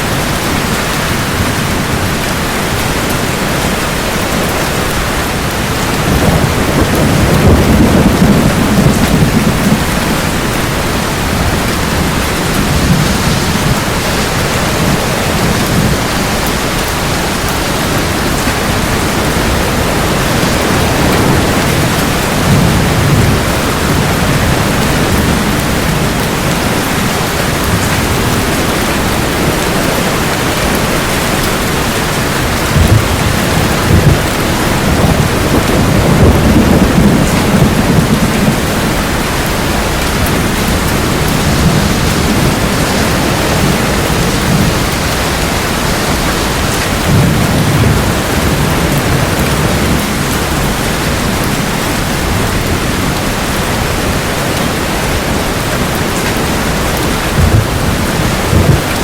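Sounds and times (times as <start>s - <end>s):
heavy rain: 0.0s - 59.0s
low thunder rumble: 4.5s - 59.0s
thunder cracks: 5.3s - 53.0s, 55.6s - 59.0s.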